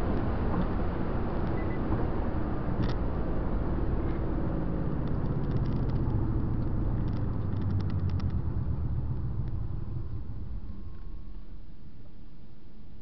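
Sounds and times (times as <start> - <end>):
car engine hum: 0.0 - 12.0
road noise: 0.0 - 13.0.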